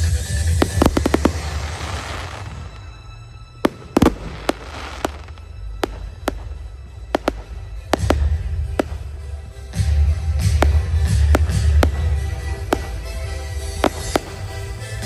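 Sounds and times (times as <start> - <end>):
fireworks bangs and cracks: 0.0 - 3.0, 3.6 - 15.0
fireworks crackling fizz: 0.0 - 15.0
music with low bass: 0.0 - 15.0.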